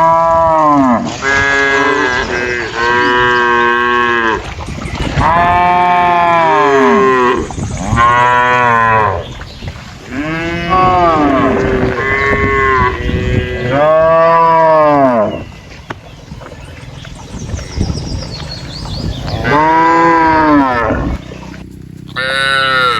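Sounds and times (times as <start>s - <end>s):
cows mooing: 0.0s - 15.5s, 17.6s - 22.9s.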